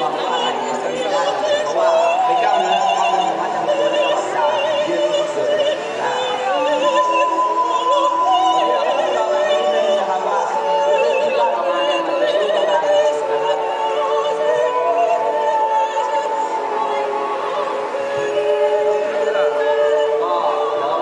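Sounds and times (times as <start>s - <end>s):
person singing with vibrato: 0.0s - 21.0s.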